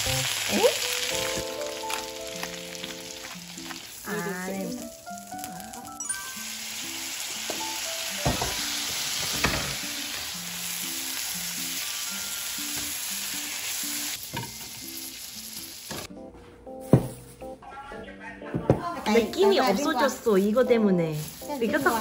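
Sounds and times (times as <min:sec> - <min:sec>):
asparagus sizzling in frying pan: 0:00.0 - 0:16.1, 0:19.1 - 0:22.0.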